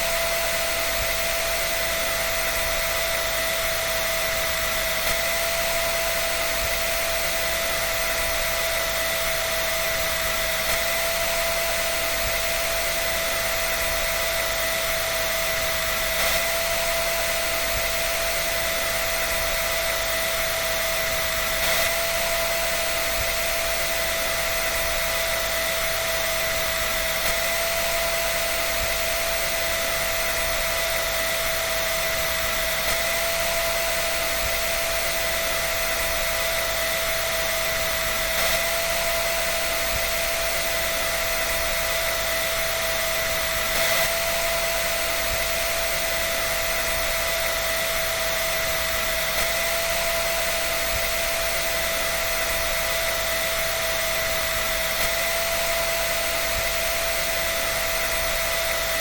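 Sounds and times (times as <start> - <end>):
dryer running: 0.0 - 59.0.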